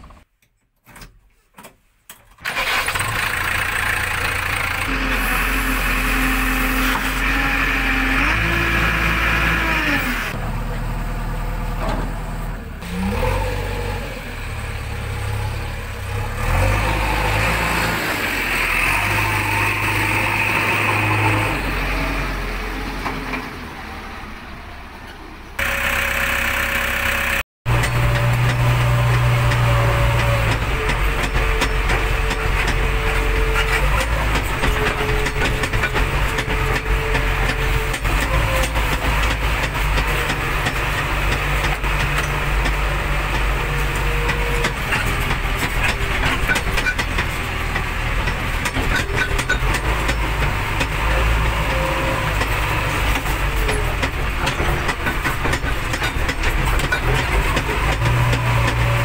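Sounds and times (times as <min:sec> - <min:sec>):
diesel engine starting and revving: 0:02.3 - 0:59.0.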